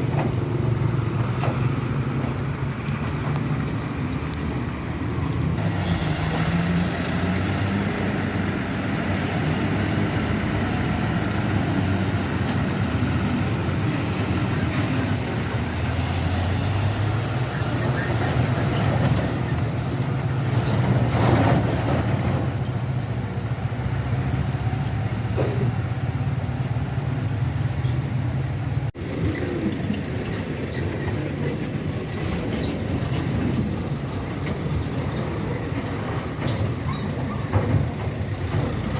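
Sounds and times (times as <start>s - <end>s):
diesel trucks driving past: 0.0s - 38.9s.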